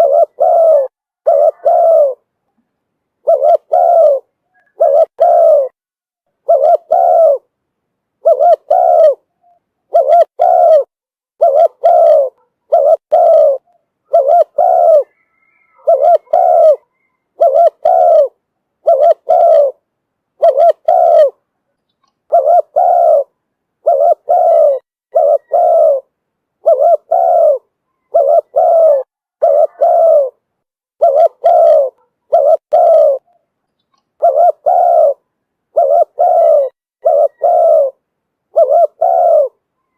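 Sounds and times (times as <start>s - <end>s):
dove cooing: 0.0s - 2.3s, 3.2s - 5.8s, 6.4s - 7.5s, 8.2s - 19.8s, 20.4s - 21.5s, 22.3s - 33.5s, 34.2s - 39.9s.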